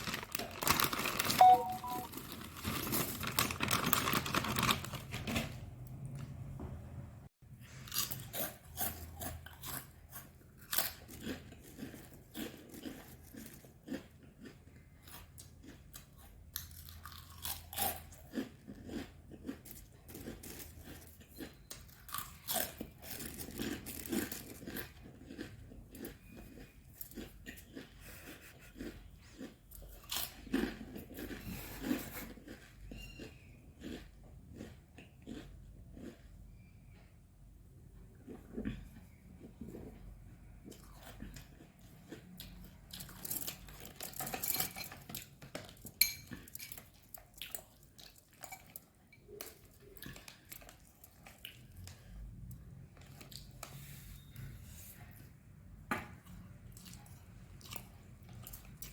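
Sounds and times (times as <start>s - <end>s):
person chewing crunchy chips: 0.0s - 5.4s, 7.6s - 36.7s, 38.1s - 54.0s, 56.2s - 58.9s.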